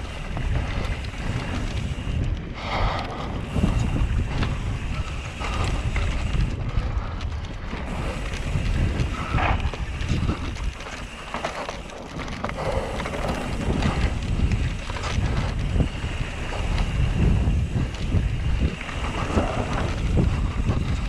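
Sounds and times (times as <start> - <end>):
bike rattling and knocking: 0.0 - 21.0
wind buffeting microphone: 0.0 - 21.0.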